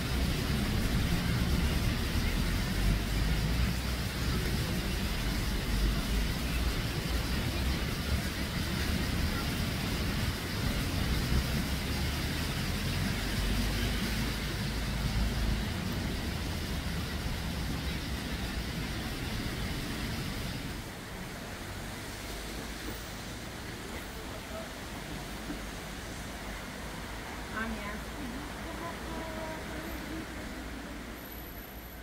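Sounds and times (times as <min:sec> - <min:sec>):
hiss: 0:00.0 - 0:32.0.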